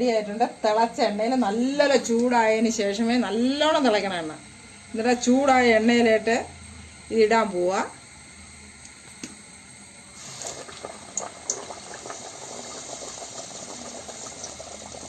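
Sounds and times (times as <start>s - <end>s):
dough deep-frying in hot oil: 0.0s - 15.0s.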